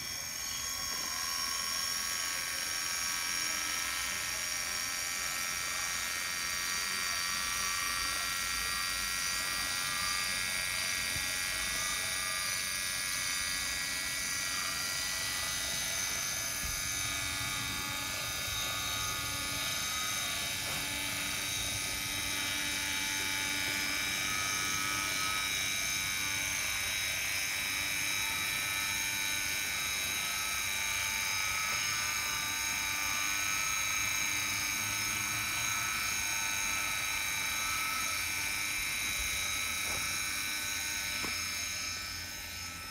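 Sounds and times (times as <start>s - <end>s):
model locomotive motor whine: 0.0s - 42.9s.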